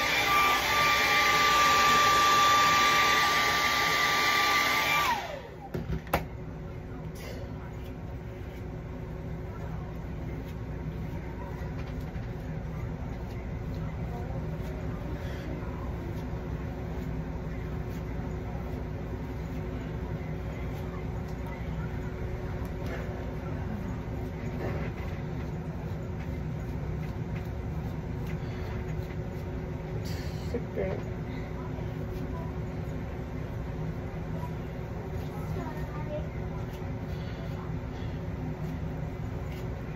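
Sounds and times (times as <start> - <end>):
fan humming: 0.0 - 39.9.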